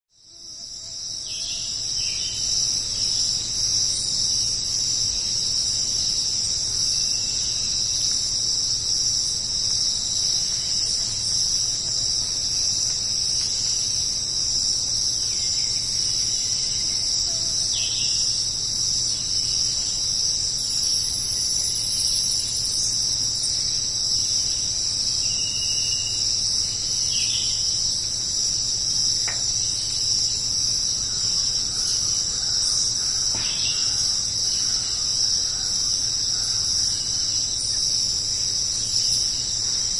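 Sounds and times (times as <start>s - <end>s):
high-pitched insect chorus: 0.1s - 39.9s.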